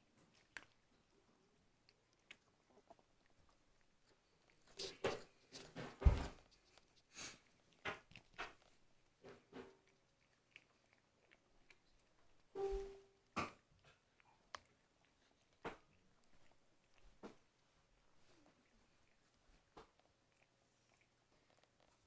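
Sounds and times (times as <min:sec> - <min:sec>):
cat chewing food: 0:00.0 - 0:22.0.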